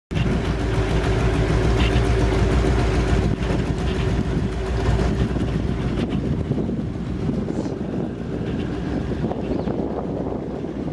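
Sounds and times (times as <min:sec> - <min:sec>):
outboard motor running: 0:00.1 - 0:10.9.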